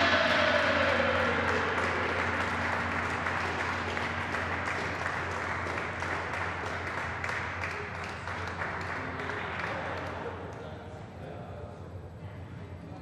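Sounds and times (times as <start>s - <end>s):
small group applauding: 0.0s - 10.7s.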